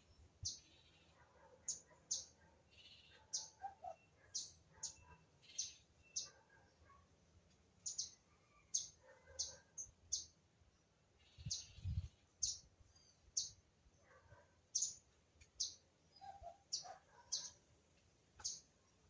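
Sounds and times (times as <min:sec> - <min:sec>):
small bird chirping: 0:00.0 - 0:06.8, 0:07.8 - 0:10.4, 0:11.2 - 0:17.7, 0:18.4 - 0:19.0.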